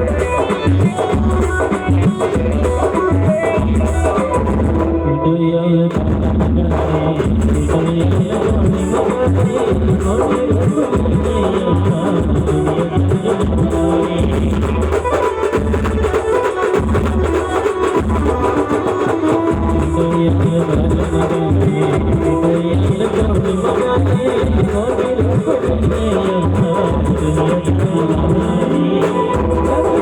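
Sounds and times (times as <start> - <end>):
band music with pulsing drum beat: 0.0 - 5.1, 5.9 - 30.0.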